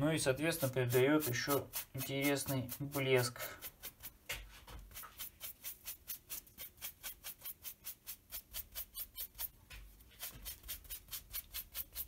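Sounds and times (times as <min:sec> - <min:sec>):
sponge swishing on leather: 0:00.6 - 0:12.0.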